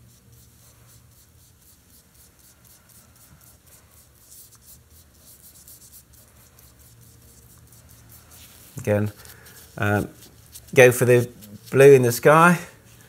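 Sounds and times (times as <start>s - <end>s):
paintbrush scratching: 0.0s - 13.0s.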